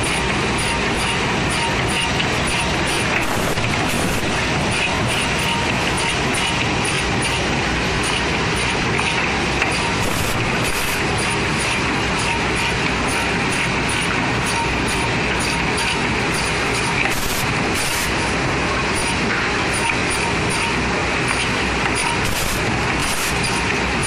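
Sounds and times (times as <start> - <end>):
cut-off saw machine running: 0.0 - 24.0.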